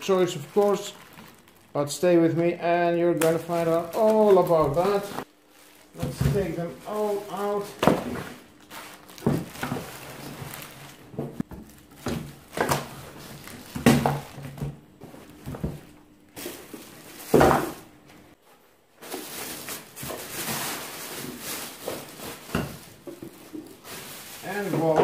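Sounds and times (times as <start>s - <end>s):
plastic bags rustling: 0.0s - 25.0s.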